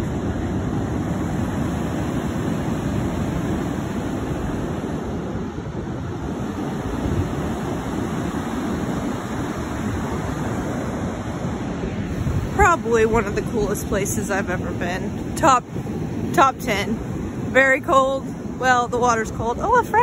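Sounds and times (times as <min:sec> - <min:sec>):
ocean surf breaking: 0:00.0 - 0:20.0
wind on microphone: 0:00.0 - 0:20.0.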